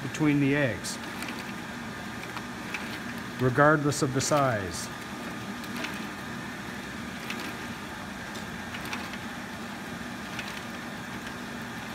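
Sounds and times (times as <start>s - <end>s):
conveyor motor hum with whine: 0.0s - 11.9s.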